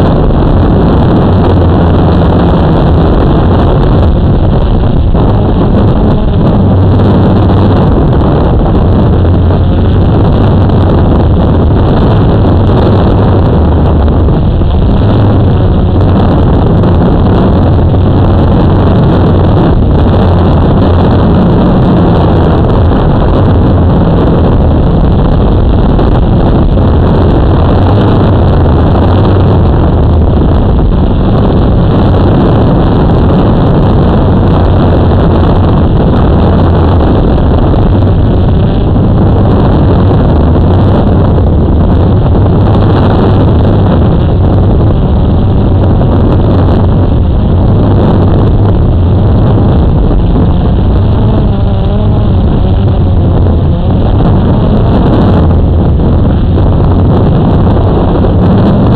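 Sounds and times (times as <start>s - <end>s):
drone propellers whirring: 0.0s - 58.9s
wind noise on microphone: 0.0s - 58.9s.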